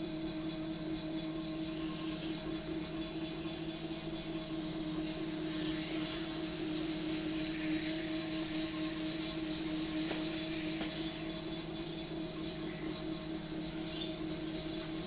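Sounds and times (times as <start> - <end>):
potter's wheel motor hum: 0.0 - 15.0.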